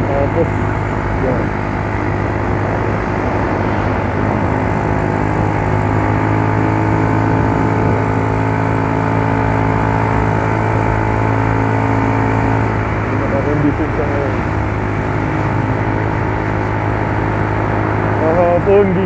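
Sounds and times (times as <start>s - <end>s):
scooter engine running steadily: 0.0s - 19.0s.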